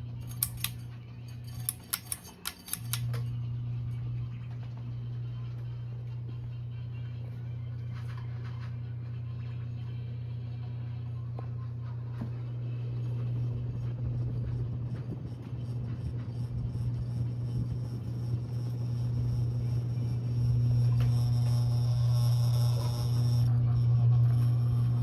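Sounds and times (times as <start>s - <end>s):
ceiling fan motor humming: 0.0s - 25.0s.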